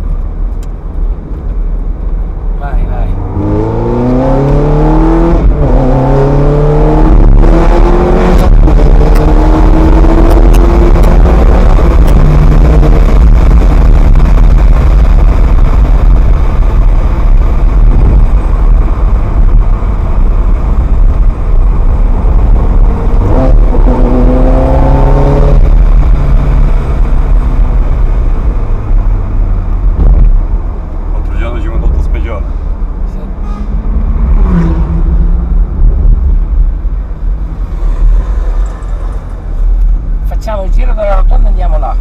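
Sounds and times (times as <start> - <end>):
sports car engine accelerating: 3.1 - 40.3.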